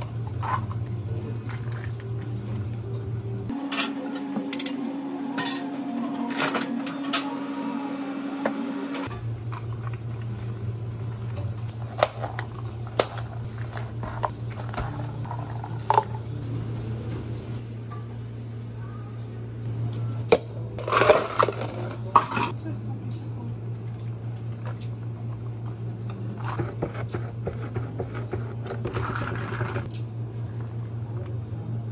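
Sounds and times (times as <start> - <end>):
equipment hum: 0.0 - 31.9.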